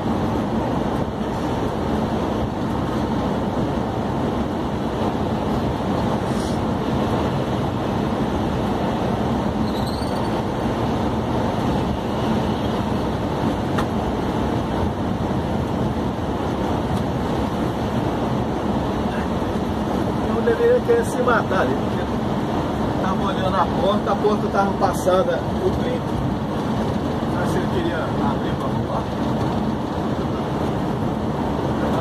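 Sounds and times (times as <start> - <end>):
vehicle road and engine noise: 0.0 - 32.0.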